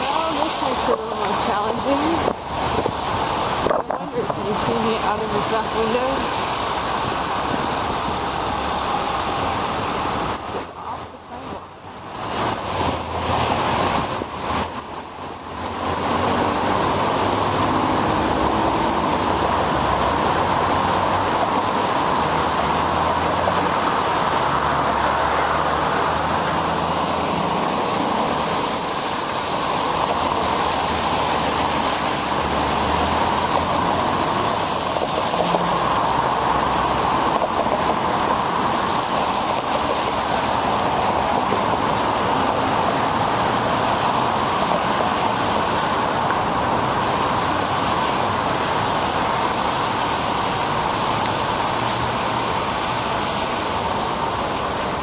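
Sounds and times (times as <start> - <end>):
tyres hissing on wet pavement: 0.0 - 55.0.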